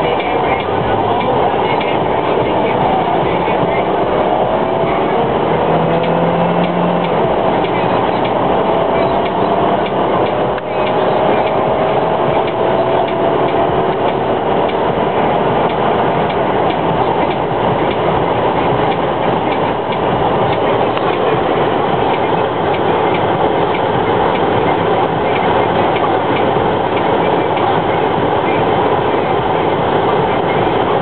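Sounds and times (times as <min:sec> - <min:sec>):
car engine accelerating: 0:00.0 - 0:31.0
road and wind noise: 0:00.0 - 0:31.0.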